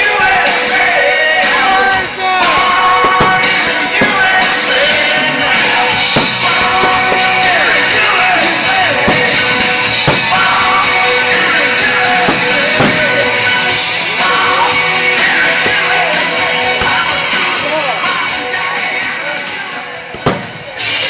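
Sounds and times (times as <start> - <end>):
rock music over sound system: 0.0 - 21.0
sharp hits: 1.4 - 18.3, 20.1 - 21.0.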